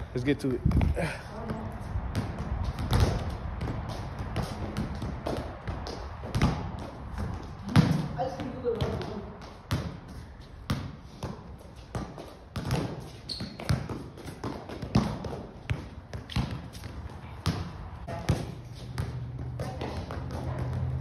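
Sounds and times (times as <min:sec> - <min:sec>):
balls thumping on feet and concrete: 0:00.0 - 0:21.0.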